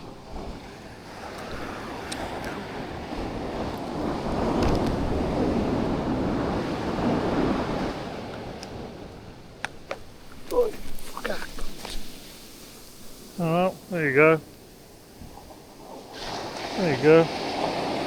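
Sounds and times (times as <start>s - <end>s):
ocean surf washing onto beach: 0.0s - 18.0s
wind buffeting microphone: 0.0s - 18.0s.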